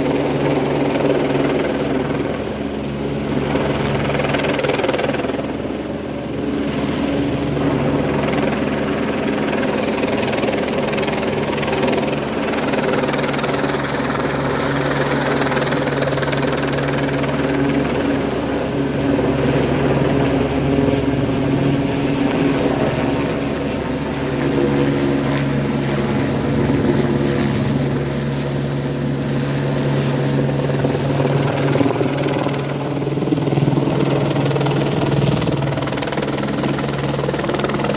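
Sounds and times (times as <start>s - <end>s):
helicopter rotor and engine drone: 0.0s - 37.9s.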